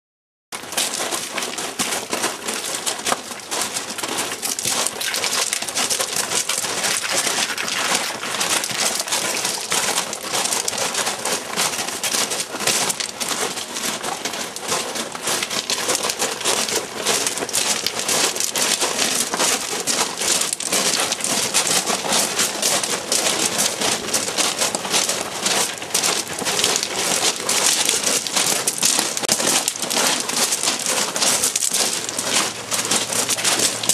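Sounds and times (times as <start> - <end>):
footsteps crunching on gravel: 0.6 - 33.9.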